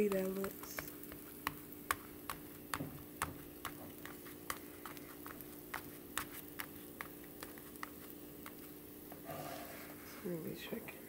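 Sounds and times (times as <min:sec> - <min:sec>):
oil popping in a frying pan: 0:00.0 - 0:09.2
faint steady hum: 0:00.0 - 0:11.0.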